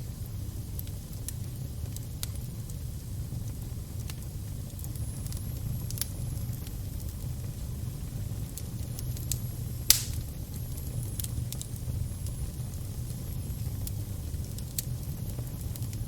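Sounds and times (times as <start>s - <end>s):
fire burning with low rumble: 0.0s - 16.0s
fire crackling and popping: 0.0s - 16.0s.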